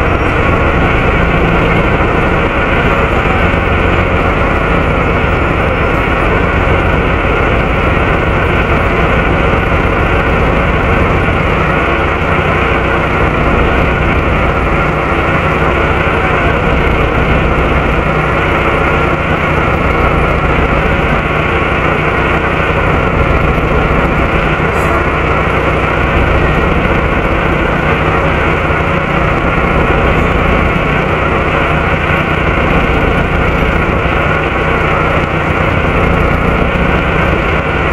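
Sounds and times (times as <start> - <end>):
diesel engine running: 0.0 - 37.9
engine cooling fan rushing: 0.0 - 37.9.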